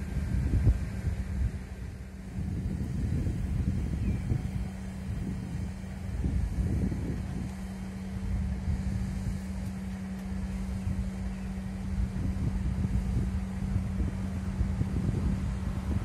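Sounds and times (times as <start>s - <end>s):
distant freight train rumble: 0.0s - 16.0s
steady low hum: 0.0s - 16.0s
wind gusts on microphone: 0.0s - 16.0s.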